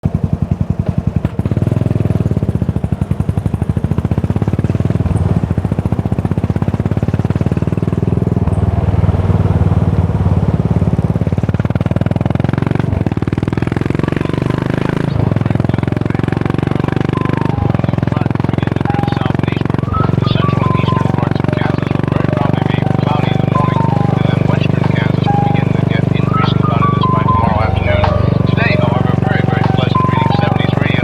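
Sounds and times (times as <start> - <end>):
motorcycle exhaust beat: 0.0 - 31.0.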